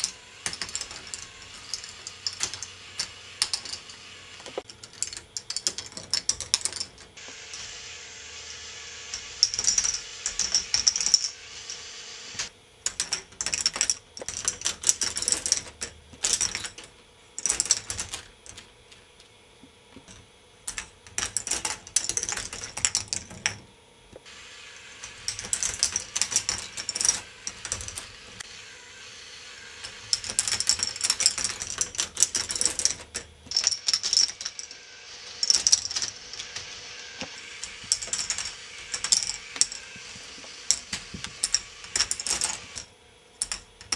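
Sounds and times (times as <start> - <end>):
plastic balls rattling along tracks: 0.0 - 7.8, 9.0 - 19.3, 20.0 - 23.6, 24.8 - 43.9.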